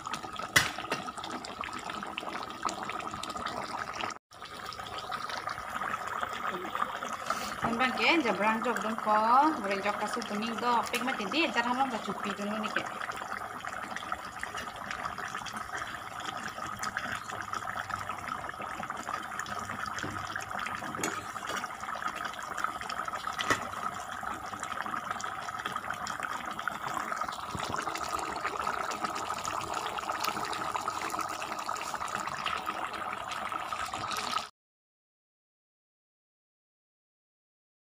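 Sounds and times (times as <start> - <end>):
curry simmering with pops: 0.0 - 34.5.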